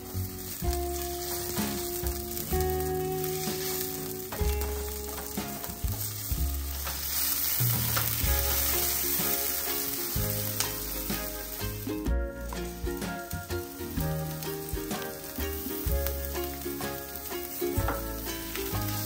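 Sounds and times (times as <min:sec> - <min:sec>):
background music with bass line: 0:00.0 - 0:19.0
food sizzling in a pan: 0:00.0 - 0:19.0.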